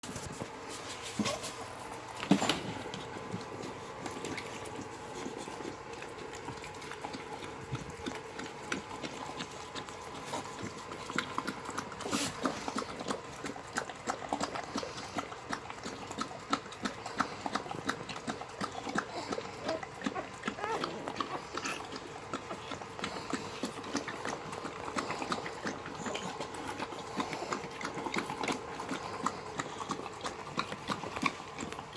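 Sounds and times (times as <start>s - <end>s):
puppies eating messily: 0.0s - 31.9s.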